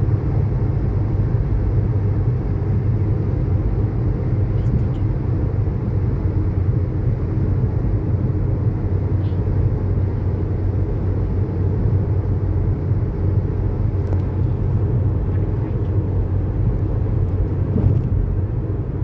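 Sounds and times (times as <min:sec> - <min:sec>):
car driving on road: 0:00.0 - 0:19.0.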